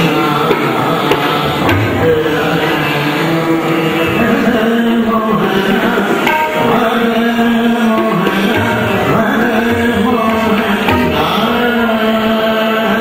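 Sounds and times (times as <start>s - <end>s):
tabla strokes: 0.0s - 12.3s
man singing long gliding notes: 0.0s - 13.0s.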